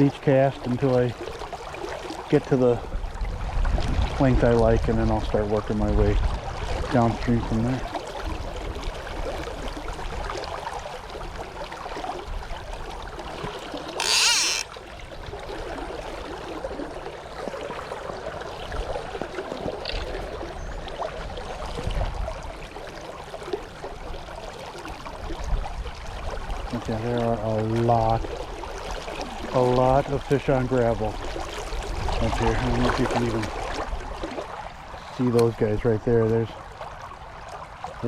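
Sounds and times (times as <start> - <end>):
river water flowing: 0.0 - 4.3, 6.2 - 38.0
wind rumbling on microphone: 2.5 - 17.0, 17.9 - 22.9, 23.7 - 29.5, 30.3 - 38.0.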